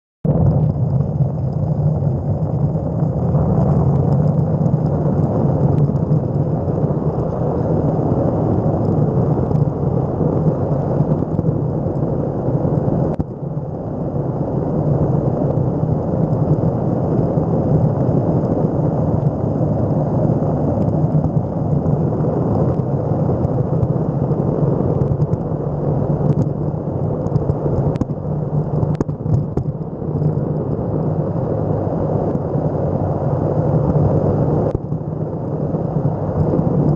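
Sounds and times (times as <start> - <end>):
skateboard wheels rumbling on asphalt: 0.2 - 36.9.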